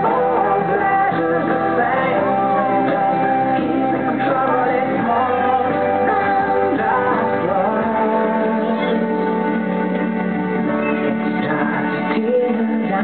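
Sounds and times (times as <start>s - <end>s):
pop music with singing: 0.0s - 13.0s.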